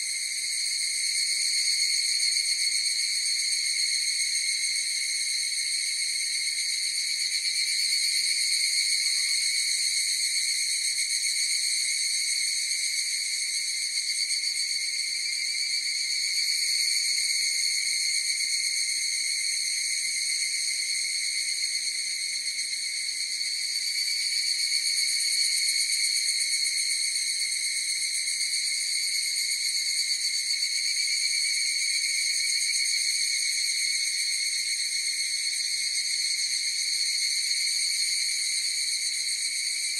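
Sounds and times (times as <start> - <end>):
cicadas shrill drone: 0.0 - 39.9.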